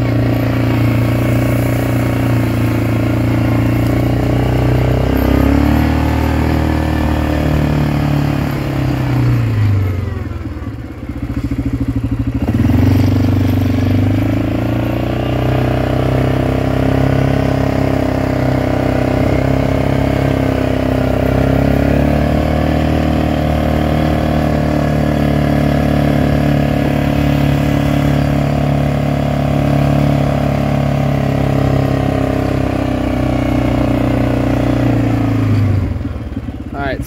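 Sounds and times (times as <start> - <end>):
quad bike engine running: 0.0 - 37.0.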